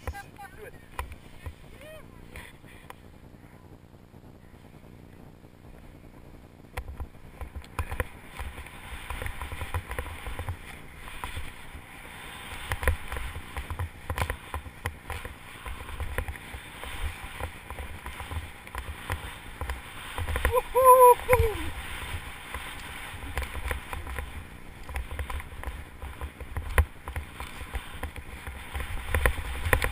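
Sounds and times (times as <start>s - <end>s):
low uneven rumble: 0.0s - 29.9s
skis running over snow: 4.5s - 29.9s.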